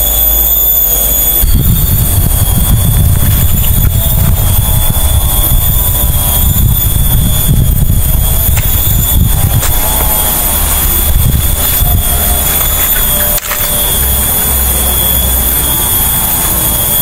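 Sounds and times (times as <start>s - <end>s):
wind buffeting microphone: 1.4s - 17.0s.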